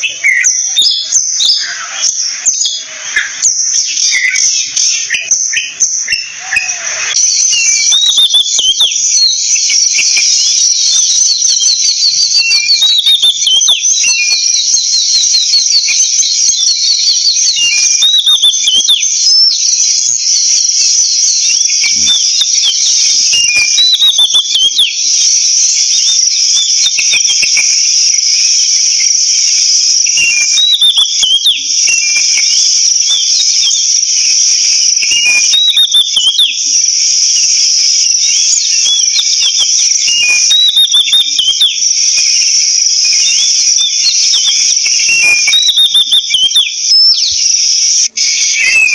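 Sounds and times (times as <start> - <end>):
crickets droning: 0.0 - 48.9
songbird whistling: 0.0 - 48.9.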